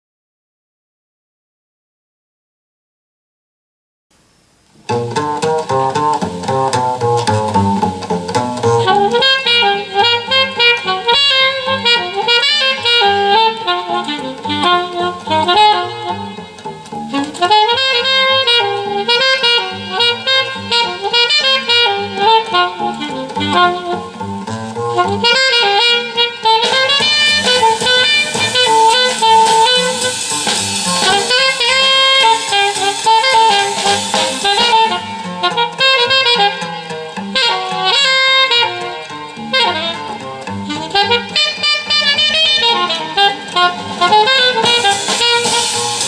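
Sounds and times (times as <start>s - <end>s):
jazz band with saxophone lead: 4.6s - 46.0s.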